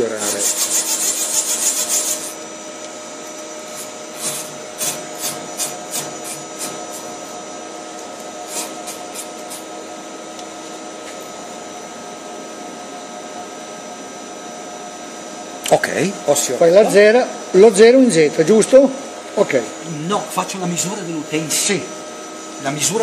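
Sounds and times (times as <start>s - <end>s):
lathe running with steady hum: 0.0s - 23.0s.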